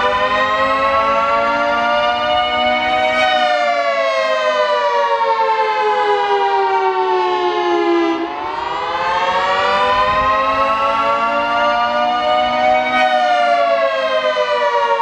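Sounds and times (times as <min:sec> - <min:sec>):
rotating siren wailing: 0:00.0 - 0:15.0.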